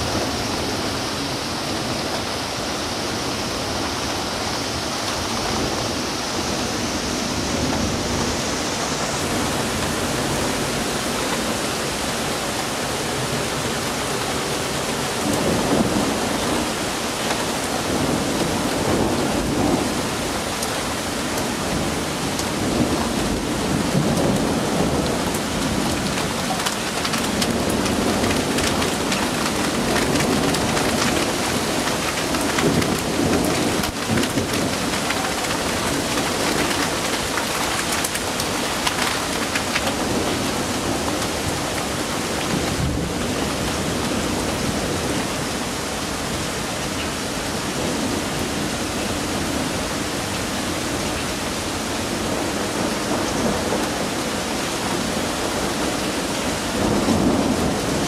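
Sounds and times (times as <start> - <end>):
heavy rain pouring: 0.0 - 58.0
thunder rumbling: 0.0 - 58.0.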